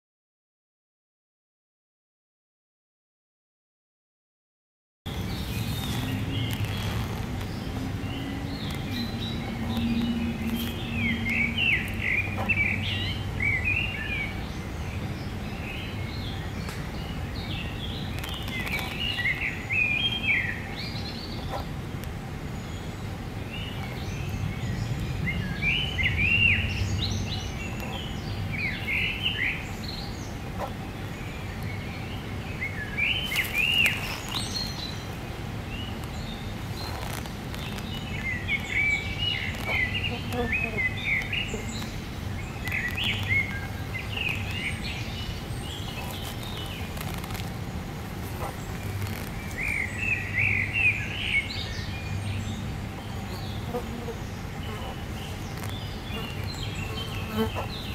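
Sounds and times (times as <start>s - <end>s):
songbirds singing: 5.1s - 57.9s.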